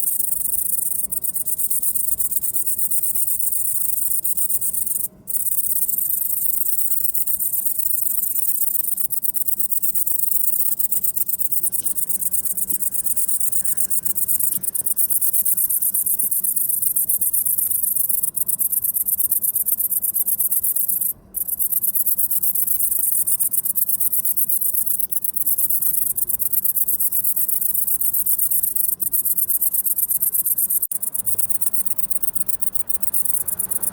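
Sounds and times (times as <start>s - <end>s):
bush-cricket buzzing: 0.0s - 33.9s.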